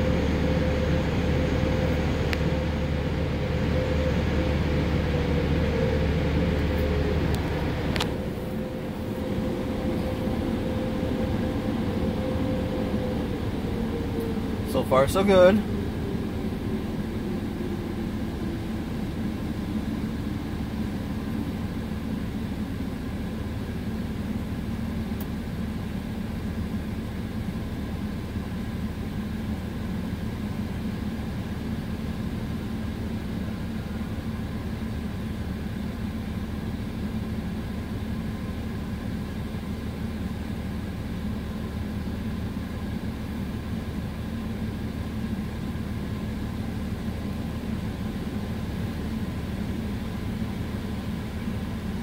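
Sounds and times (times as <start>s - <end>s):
car wash machinery rumble: 0.0s - 52.0s
hum: 0.0s - 52.0s
truck engine idling: 0.0s - 52.0s.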